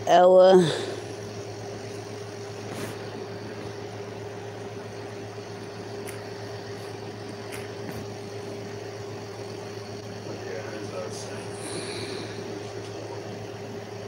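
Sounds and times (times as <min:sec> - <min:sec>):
electrical hum with whine: 0:00.0 - 0:14.0.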